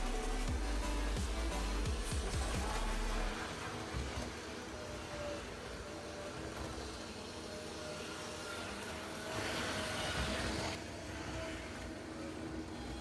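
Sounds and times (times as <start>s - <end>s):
model train motor hum: 0.0s - 13.0s.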